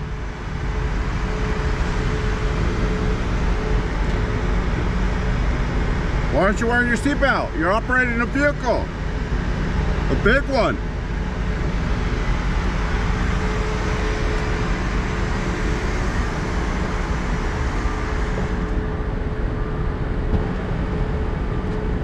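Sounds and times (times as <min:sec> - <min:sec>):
bus engine idling: 0:00.0 - 0:22.0.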